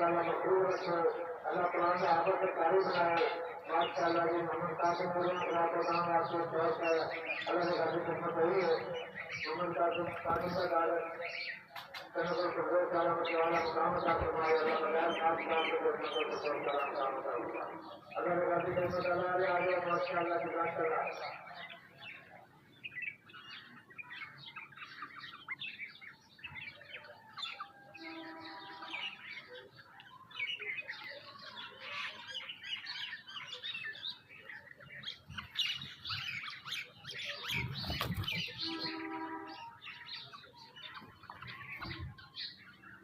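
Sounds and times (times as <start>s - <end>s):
lower pitched bird calls: 0.0s - 43.0s
small birds chirping: 0.0s - 43.0s.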